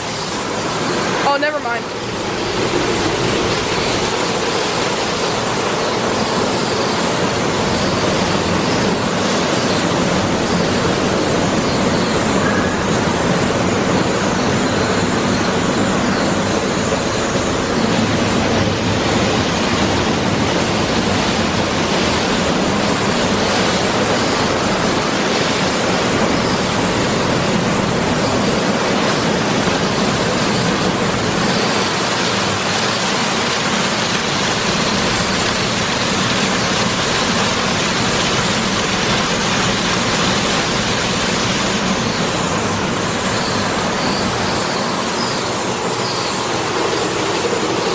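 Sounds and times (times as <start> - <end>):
car wash water spray: 0.0 - 47.9.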